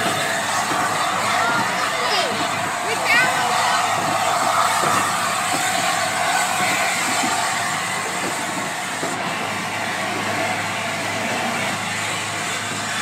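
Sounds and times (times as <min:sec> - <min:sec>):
train coaches rolling: 0:00.0 - 0:13.0.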